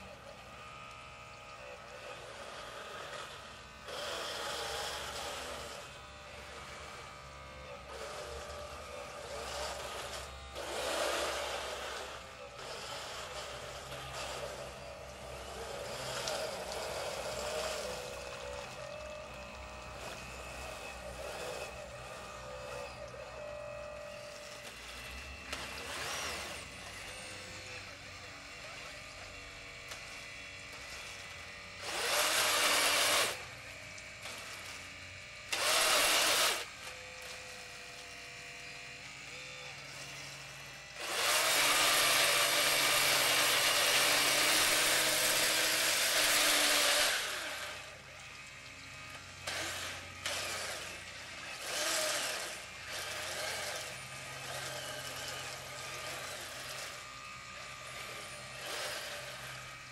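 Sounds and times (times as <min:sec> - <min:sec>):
electric motors whining: 0:00.0 - 0:59.9
harsh whirring: 0:00.0 - 0:59.9.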